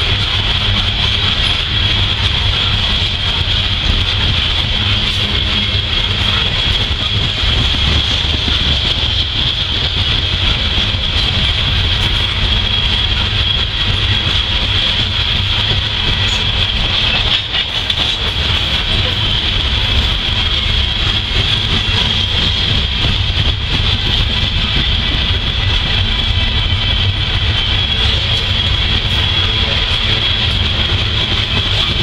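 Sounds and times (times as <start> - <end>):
steel train wheels rumbling on rail: 0.0 - 32.0.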